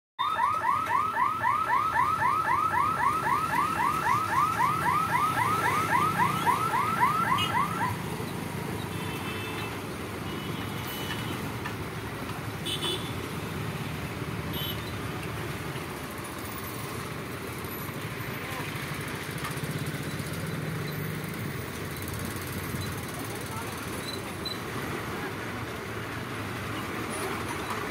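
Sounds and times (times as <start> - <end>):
motorcycle and truck engines: 0.5 - 27.9.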